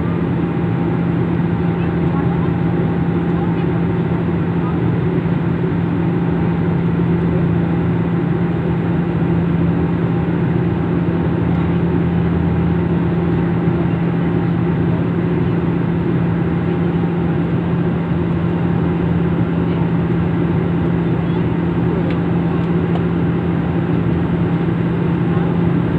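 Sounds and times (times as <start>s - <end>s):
aeroplane drone: 0.0s - 25.9s.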